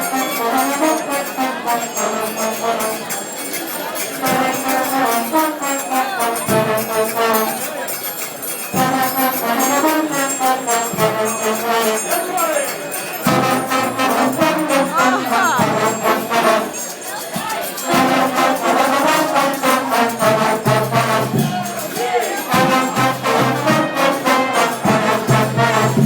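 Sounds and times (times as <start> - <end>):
trombones playing a tune: 0.0 - 26.0.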